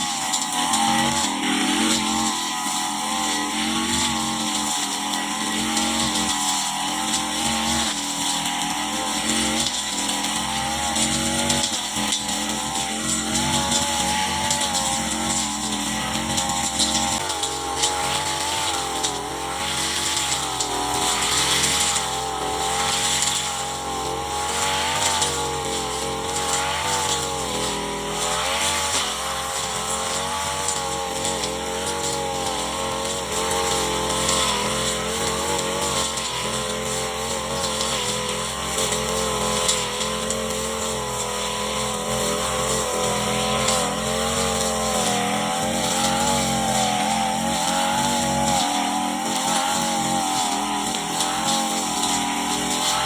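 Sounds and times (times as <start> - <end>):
brush cutter engine revving: 0.0 - 53.0.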